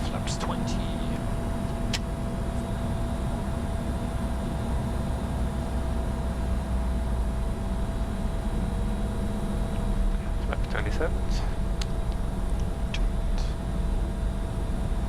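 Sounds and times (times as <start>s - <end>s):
faint steady hum: 0.0s - 15.0s
jet airflow and engine rumble: 0.0s - 15.0s.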